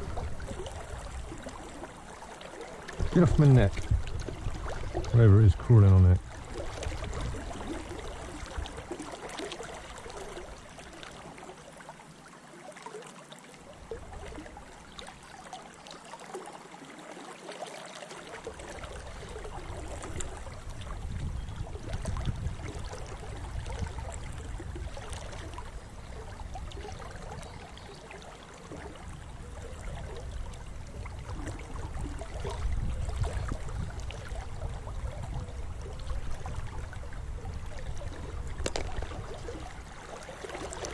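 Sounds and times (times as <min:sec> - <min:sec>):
river flowing and trickling: 0:00.0 - 0:40.9.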